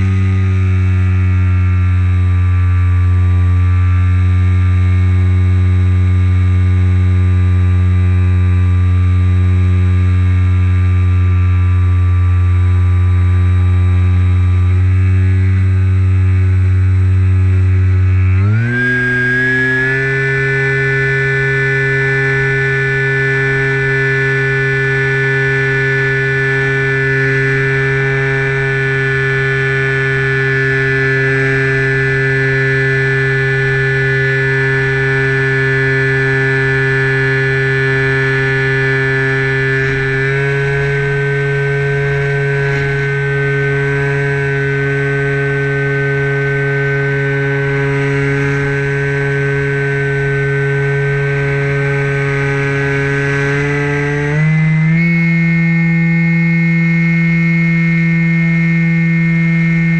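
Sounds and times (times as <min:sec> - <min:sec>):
electric motor and propeller droning: 0:00.0 - 0:59.9.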